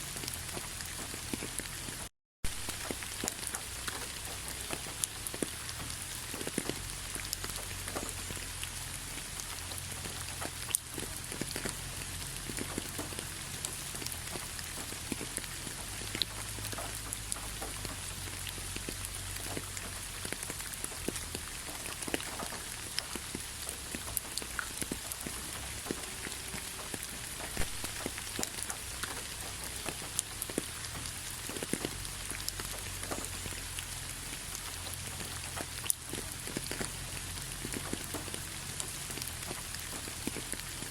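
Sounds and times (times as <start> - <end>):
light rain hiss: 0.0 - 40.9
raindrops ticking: 0.0 - 40.9.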